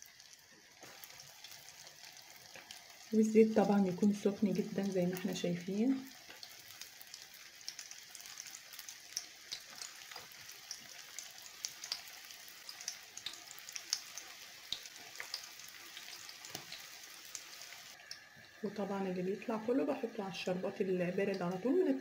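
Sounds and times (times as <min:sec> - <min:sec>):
pastries deep-frying in oil: 0:00.0 - 0:22.0.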